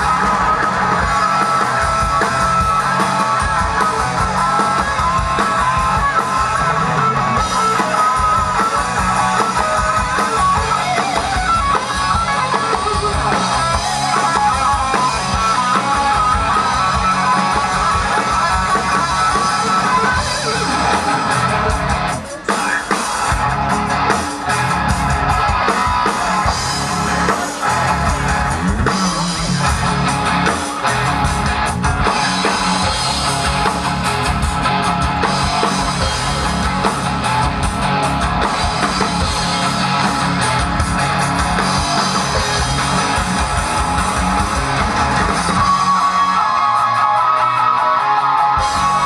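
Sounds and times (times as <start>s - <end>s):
drum kit: 0.0s - 49.0s
electric guitar: 0.0s - 49.0s.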